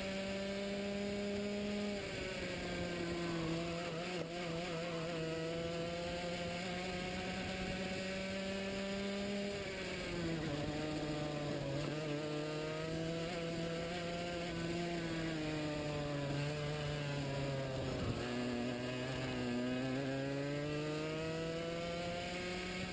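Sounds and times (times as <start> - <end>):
racing kart engine: 0.0 - 22.9.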